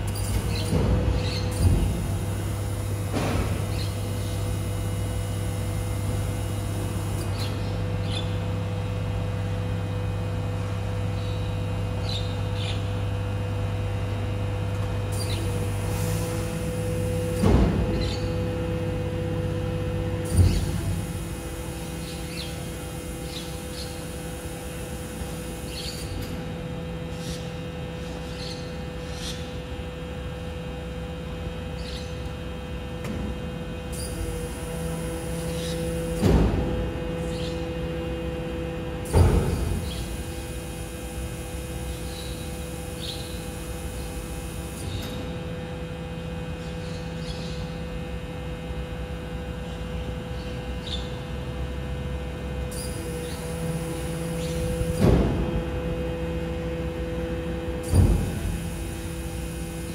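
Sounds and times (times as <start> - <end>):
electric truck hum and whine: 0.0 - 59.9.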